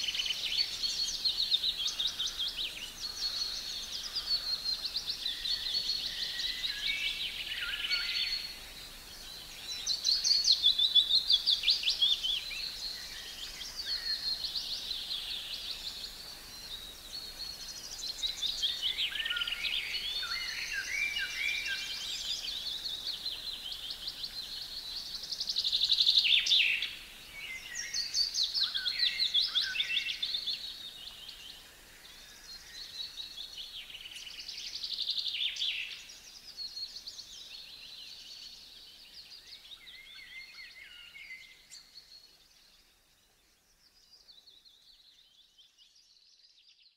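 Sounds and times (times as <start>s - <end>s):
songbirds singing: 0.0s - 46.9s.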